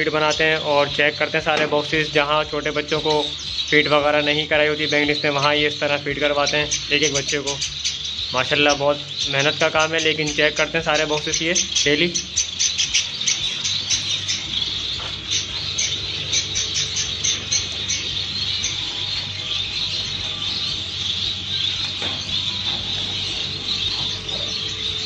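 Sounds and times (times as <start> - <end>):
finches chirping: 0.0 - 25.0
steady low hum: 0.0 - 25.0.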